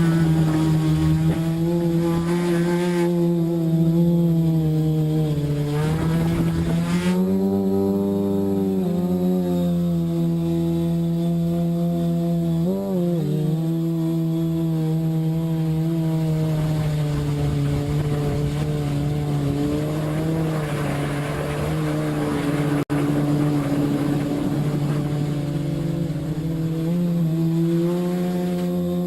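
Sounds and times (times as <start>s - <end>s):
drone propellers humming: 0.0s - 29.0s.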